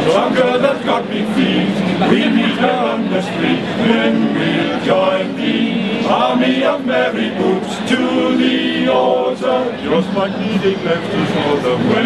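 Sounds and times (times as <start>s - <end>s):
male choir singing: 0.0s - 12.0s.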